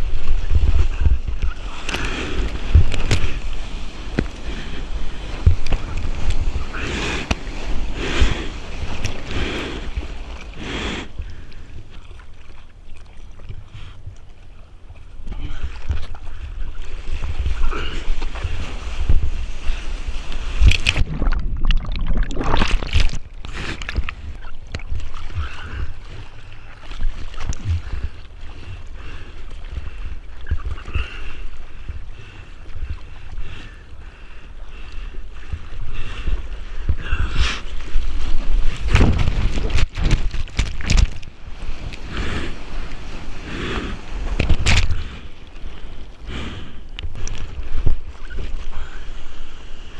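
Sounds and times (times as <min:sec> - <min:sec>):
low wind rumble: 0:00.0 - 0:12.0, 0:13.4 - 0:49.9
ocean water sloshing and splashing: 0:00.0 - 0:49.9.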